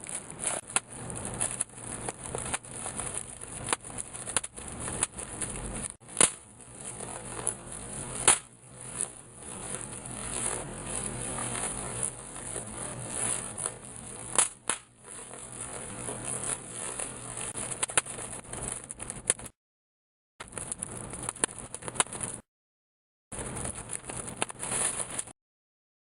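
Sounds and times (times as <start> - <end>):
bubble wrap crinkling and popping: 0.0 - 19.6, 20.4 - 22.4, 23.4 - 25.3.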